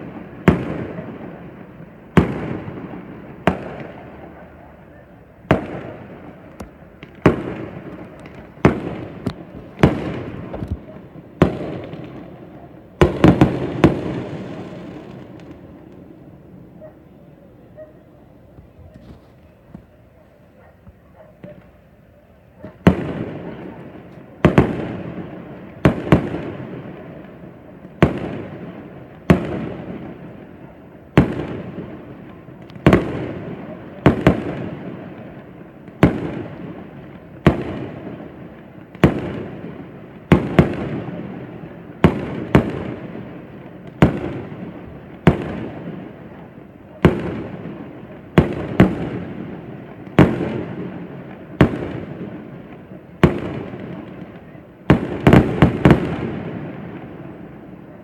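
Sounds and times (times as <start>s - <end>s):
fireworks bangs with rumble: 0.0s - 4.4s, 5.3s - 16.1s, 22.7s - 57.8s.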